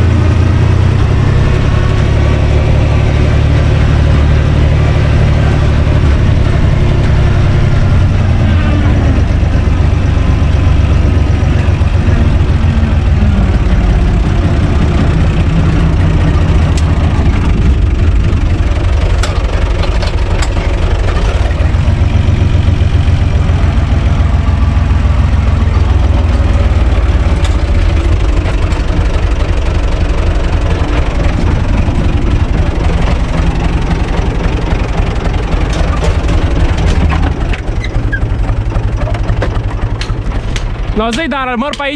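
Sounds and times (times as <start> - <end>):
tractor diesel engine chugging: 0.0 - 41.9.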